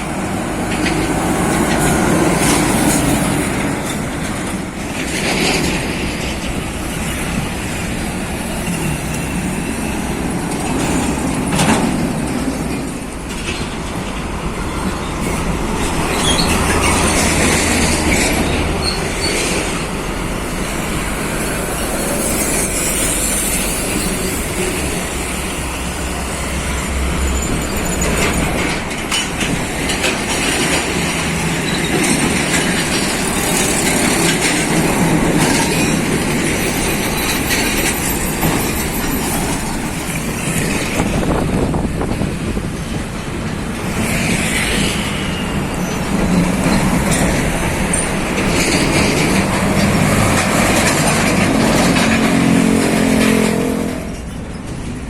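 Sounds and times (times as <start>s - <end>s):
trailer rattles and knocks: 0.0s - 55.0s
tyre and road noise: 0.0s - 55.0s.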